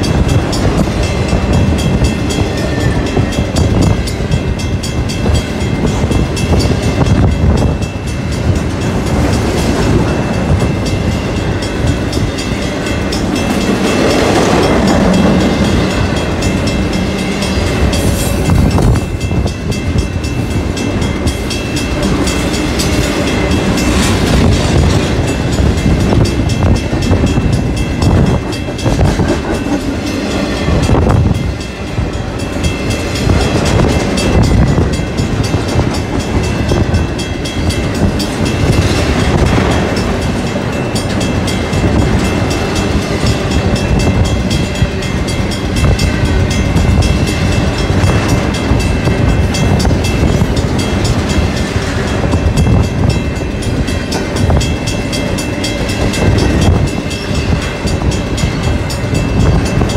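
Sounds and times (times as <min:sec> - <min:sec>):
freight train rumbling past: 0:00.0 - 0:59.9
steel wheels clattering on rails: 0:00.0 - 0:59.9.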